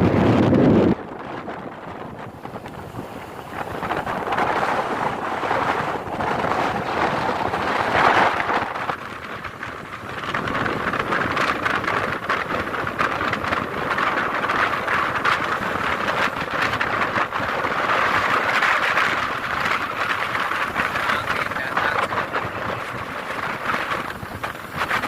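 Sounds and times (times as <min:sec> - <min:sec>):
strong wind blowing: 0:00.0 - 0:25.0.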